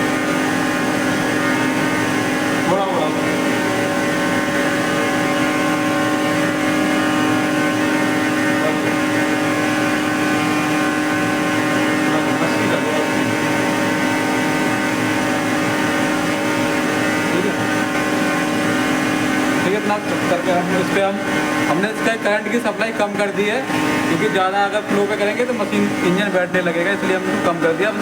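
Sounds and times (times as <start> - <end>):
hydraulic pump humming and whining: 0.0 - 28.0.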